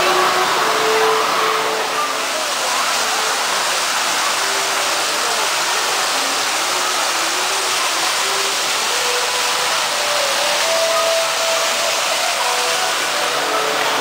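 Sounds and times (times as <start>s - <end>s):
waterfall splashing into pool: 0.0s - 14.0s.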